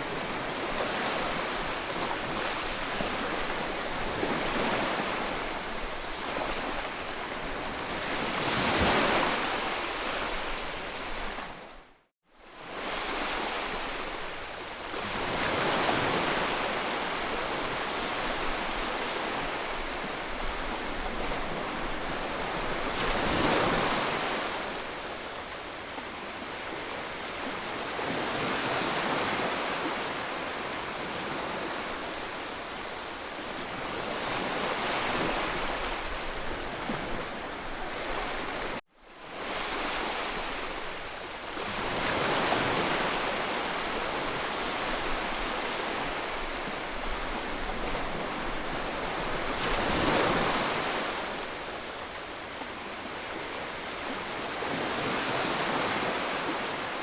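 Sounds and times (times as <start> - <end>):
sea waves breaking: 0.0 - 11.7, 14.9 - 57.0.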